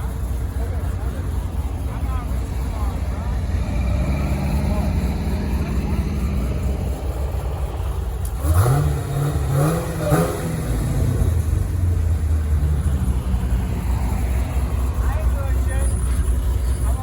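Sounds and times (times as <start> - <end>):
car engine rumbling and accelerating: 0.0 - 17.0.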